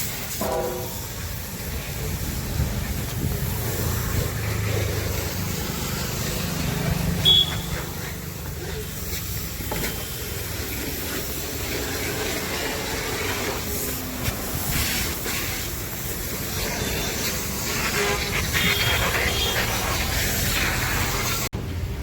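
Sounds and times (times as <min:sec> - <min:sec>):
hiss: 0:00.0 - 0:21.5.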